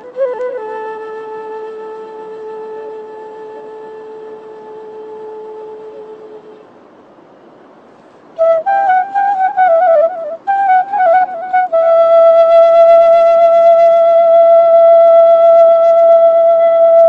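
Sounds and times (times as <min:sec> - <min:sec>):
flute-like wind instrument melody: 0:00.0 - 0:06.8, 0:08.0 - 0:17.0.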